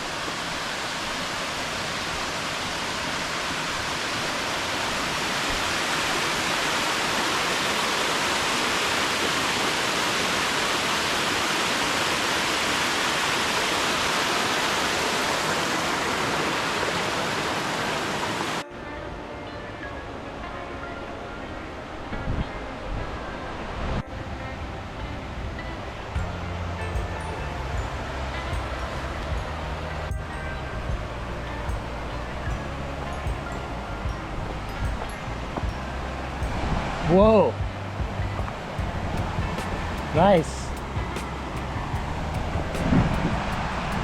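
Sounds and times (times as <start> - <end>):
small waterfall rushing: 0.0 - 18.6, 21.2 - 44.0.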